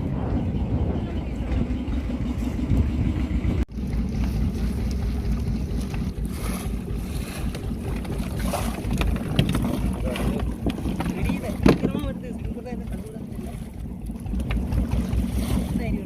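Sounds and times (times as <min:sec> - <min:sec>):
boat engine rumble: 0:00.0 - 0:16.0
water splashing against hull: 0:00.0 - 0:16.0
wind buffeting microphone: 0:00.0 - 0:16.0.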